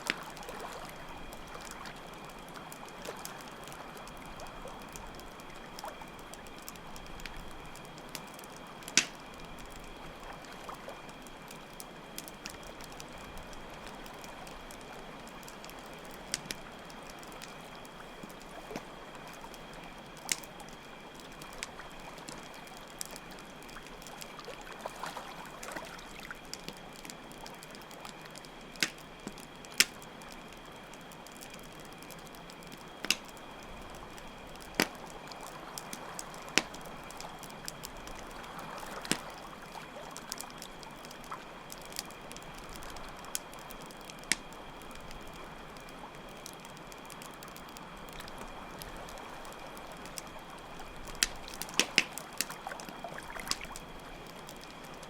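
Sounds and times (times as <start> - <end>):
campfire crackling and popping: 0.0 - 55.0
cricket trill: 0.1 - 55.0.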